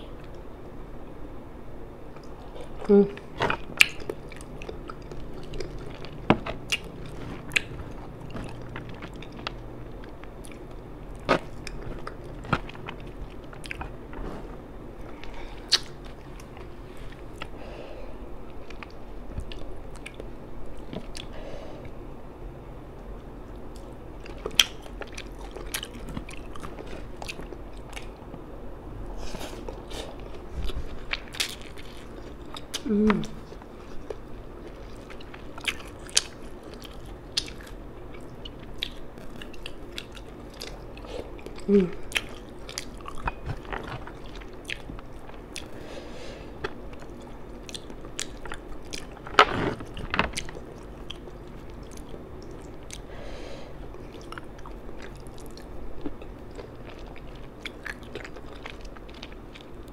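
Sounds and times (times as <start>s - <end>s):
wet chewing and mouth clicks: 2.2s - 14.4s, 15.1s - 17.5s, 23.8s - 28.4s, 29.5s - 45.8s, 46.6s - 53.1s, 53.9s - 59.9s.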